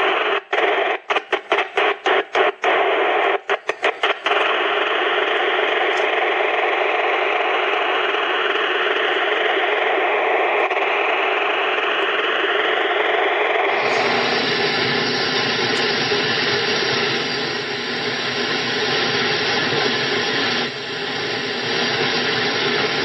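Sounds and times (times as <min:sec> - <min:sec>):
pulsing radio signal: 0:00.0 - 0:23.0
radio static hiss: 0:00.0 - 0:23.0.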